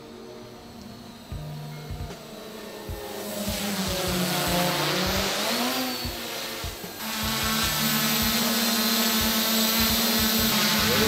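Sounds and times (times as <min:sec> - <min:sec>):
drone motors buzzing: 0:00.0 - 0:11.0.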